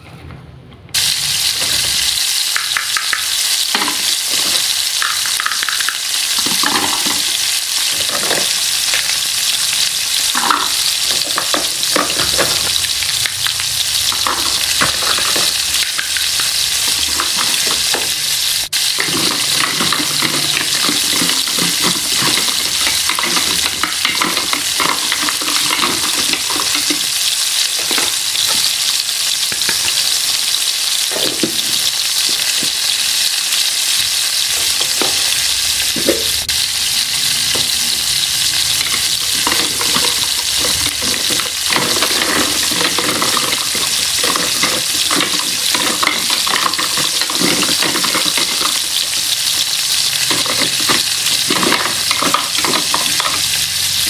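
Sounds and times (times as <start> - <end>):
food sizzling: 0.9 - 54.0.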